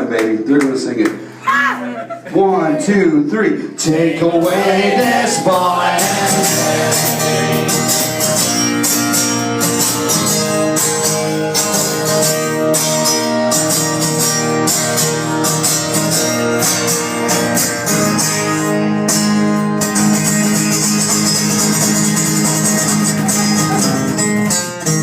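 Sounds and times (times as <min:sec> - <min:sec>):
guitar strumming: 0:04.0 - 0:25.0.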